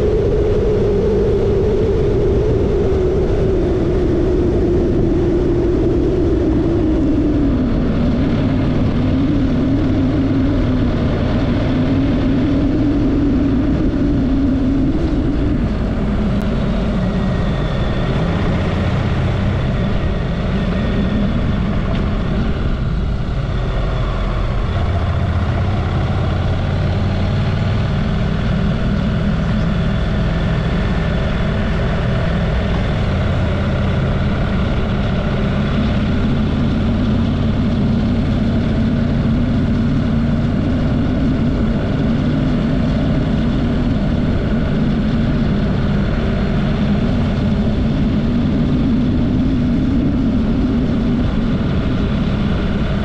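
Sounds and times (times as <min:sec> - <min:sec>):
rushing wind noise from riding: 0:00.0 - 0:53.0
motorcycle engine running: 0:02.2 - 0:53.0.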